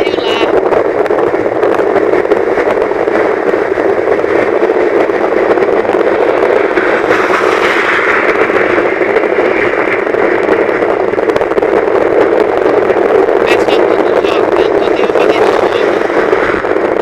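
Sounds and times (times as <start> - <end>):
wind and road noise inside car: 0.0 - 17.0.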